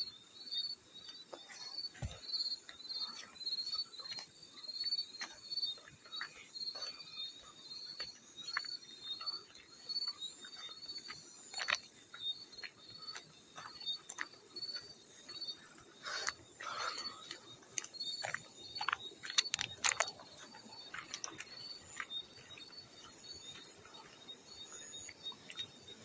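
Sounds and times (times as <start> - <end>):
field cricket chirping: 0.0 - 26.0.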